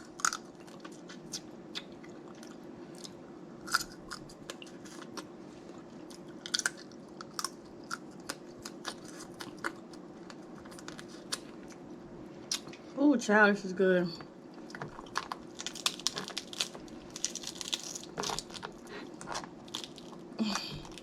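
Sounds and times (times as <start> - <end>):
chewing crab legs: 0.0 - 13.0, 14.4 - 21.0.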